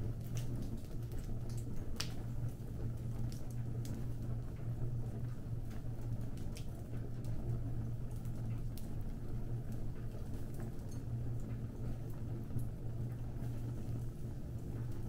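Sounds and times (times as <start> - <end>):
fire crackling and rumbling: 0.0 - 15.0.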